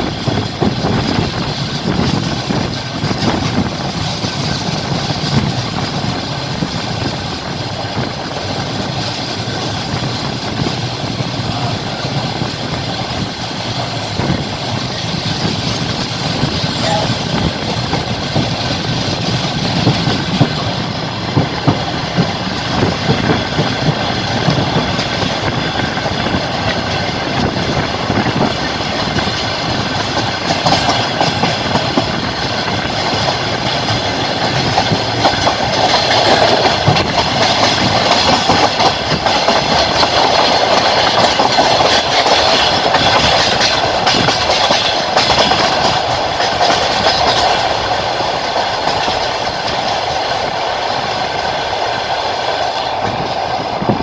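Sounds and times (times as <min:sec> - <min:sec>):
train rumble and rail noise: 0:00.0 - 0:54.0
wheels clacking over rail joints: 0:00.0 - 0:54.0.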